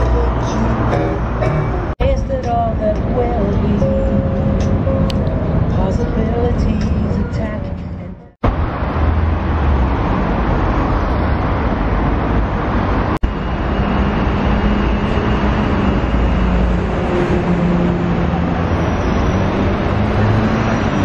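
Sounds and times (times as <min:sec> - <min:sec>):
cars passing on street: 0:00.0 - 0:21.0.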